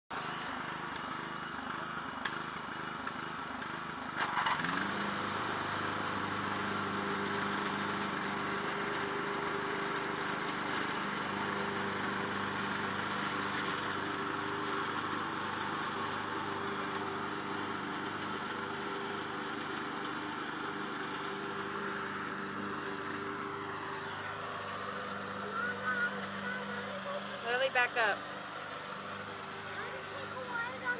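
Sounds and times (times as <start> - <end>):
riding lawn mower engine: 0.1 - 30.9.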